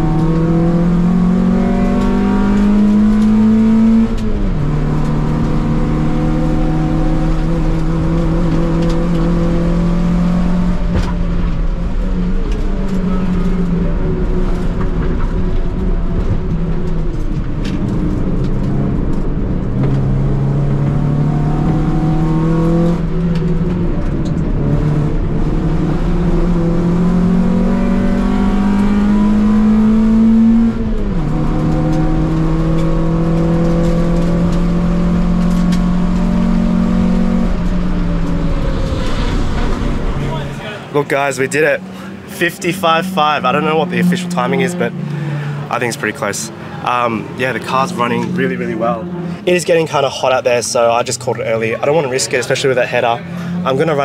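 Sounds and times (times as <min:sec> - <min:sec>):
car engine revving under hard driving: 0:00.0 - 0:54.0.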